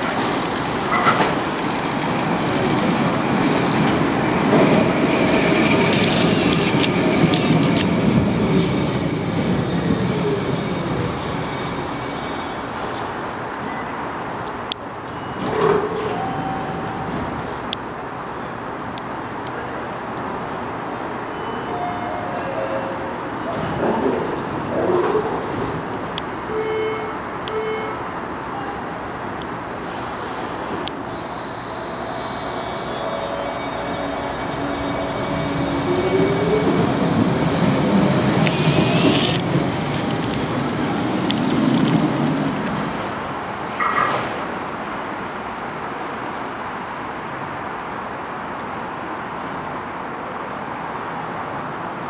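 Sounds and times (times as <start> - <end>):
wheels rumbling on rail: 0.0 - 26.5, 28.1 - 46.6
subway train humming at platform: 0.0 - 52.0.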